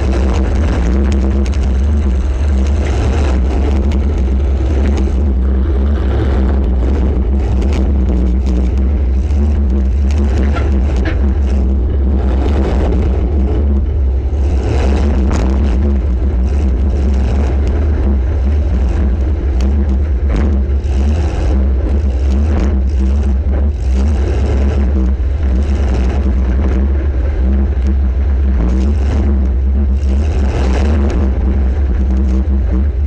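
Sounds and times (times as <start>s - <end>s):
knocks and clatter: 0.0s - 32.5s
car engine low rumble: 0.0s - 33.0s.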